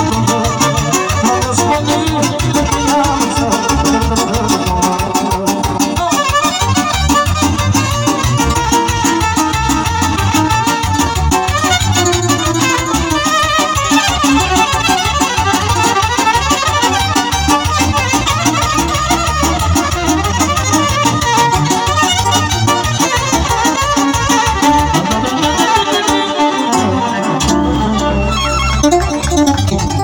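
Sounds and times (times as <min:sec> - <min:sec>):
electronic keyboard backing: 0:00.0 - 0:30.0
violin melody: 0:00.0 - 0:30.0.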